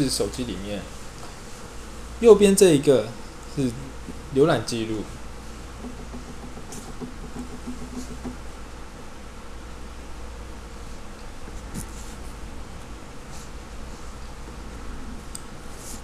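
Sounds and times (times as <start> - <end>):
low buzzing hum: 0.0 - 15.8.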